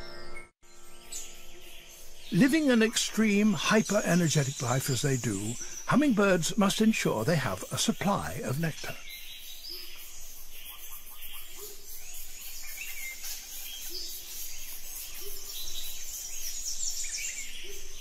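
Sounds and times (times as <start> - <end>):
insects and birds chirring: 0.0 - 18.0.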